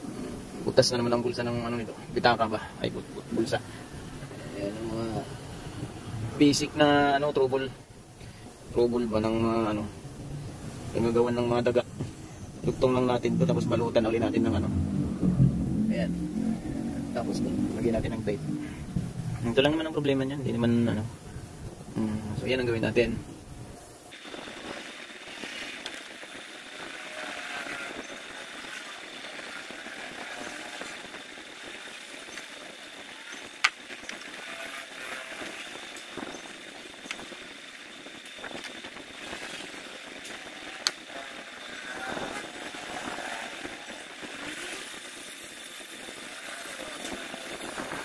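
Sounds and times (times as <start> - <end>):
faint high whine: 0.0 - 48.0.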